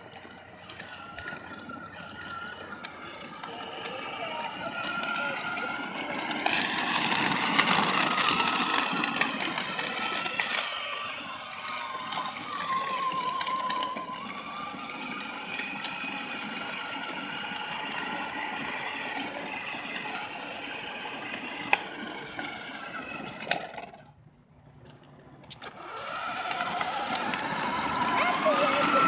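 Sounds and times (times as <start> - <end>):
electric motor whining: 0.0 - 24.0, 25.6 - 29.0
plastic wheels rumbling on asphalt: 0.0 - 29.0.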